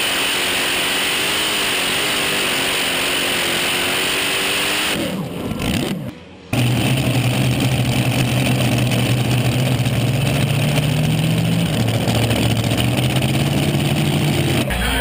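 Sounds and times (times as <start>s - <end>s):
loud vehicle engine running: 0.0s - 15.0s.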